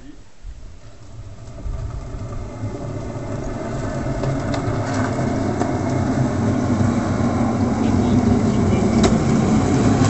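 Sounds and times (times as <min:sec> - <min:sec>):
low rolling rumble on road: 0:00.4 - 0:10.0.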